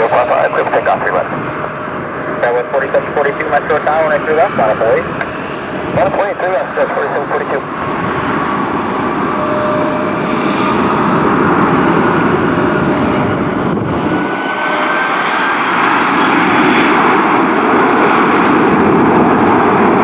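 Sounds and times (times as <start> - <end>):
jet airliner taking off: 0.0 - 20.0.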